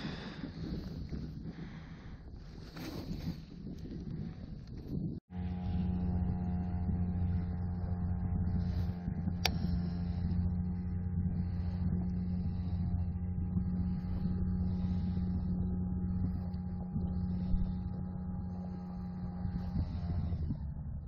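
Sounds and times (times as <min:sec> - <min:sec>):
small boat motor running: 0:00.0 - 0:21.0.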